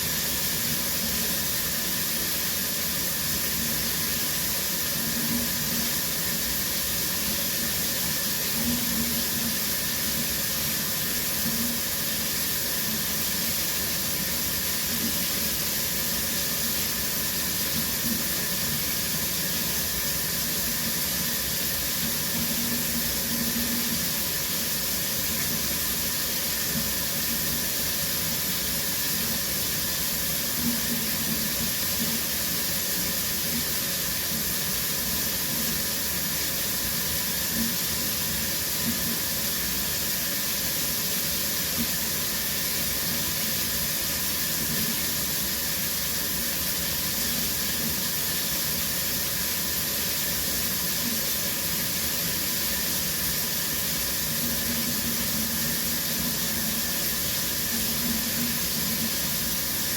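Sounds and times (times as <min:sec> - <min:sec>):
shower spray hissing: 0:00.0 - 0:59.9.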